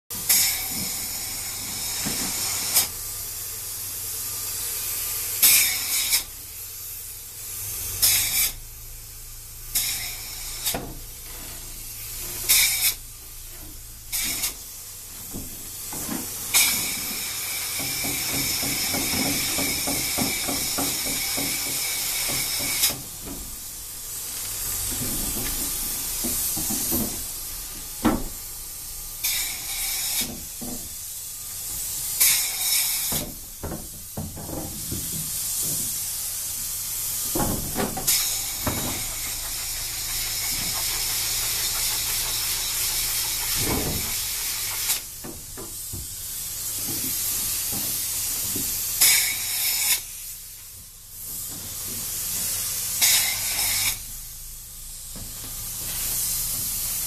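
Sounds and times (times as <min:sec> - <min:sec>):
spray foam gun hissing: 0:00.2 - 0:57.0.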